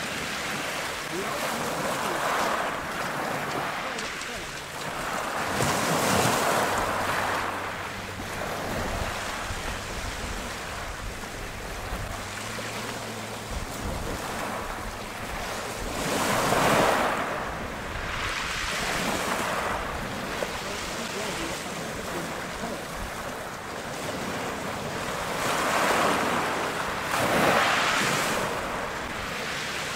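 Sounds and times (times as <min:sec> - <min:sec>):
waves washing onto shingle: 0:00.0 - 0:29.9
wind on microphone: 0:00.0 - 0:29.9.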